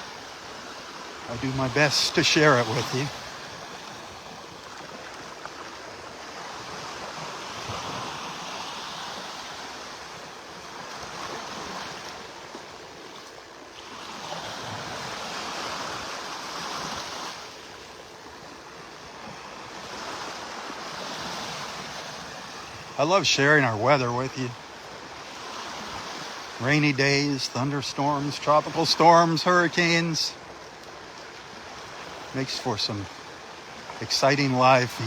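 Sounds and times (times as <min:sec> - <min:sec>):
surf washing onto beach: 0:00.0 - 0:35.0.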